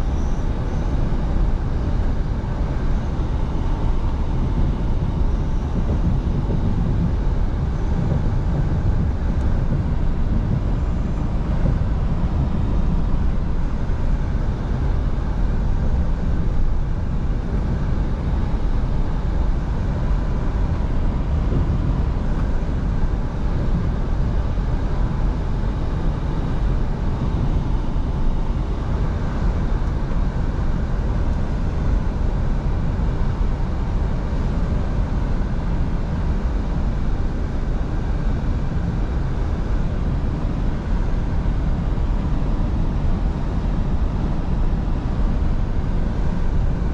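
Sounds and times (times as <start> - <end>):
road and wind noise: 0.0 - 46.9
truck engine drone: 0.0 - 46.9.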